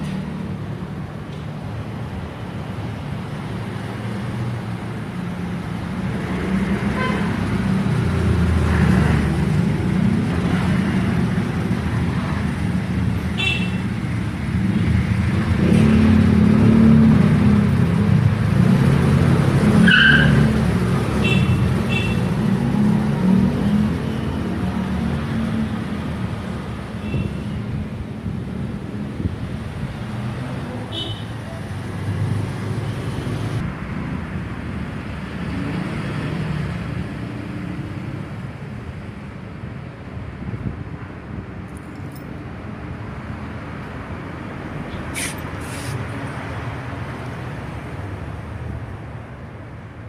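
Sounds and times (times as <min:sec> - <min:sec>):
passing vehicles rumbling: 0:00.0 - 0:50.0.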